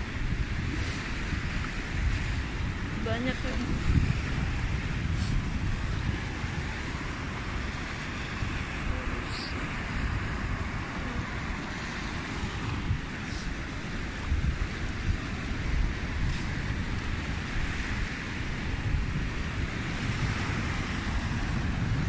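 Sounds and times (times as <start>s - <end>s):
sea surf: 0.0s - 22.0s
wind buffeting microphone: 0.0s - 22.0s.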